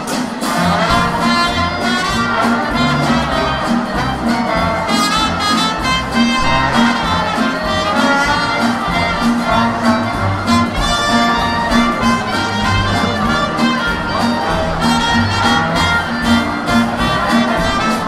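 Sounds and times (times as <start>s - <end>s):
drums: 0.0s - 18.0s
swing jazz band playing: 0.0s - 18.0s
trombone: 0.0s - 18.0s
trumpet: 0.0s - 18.0s
upright bass: 0.2s - 18.0s.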